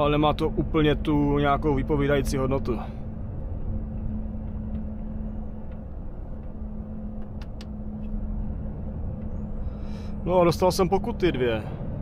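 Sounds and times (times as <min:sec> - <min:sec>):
road rumble: 0:00.0 - 0:12.0
truck engine drone: 0:00.0 - 0:12.0.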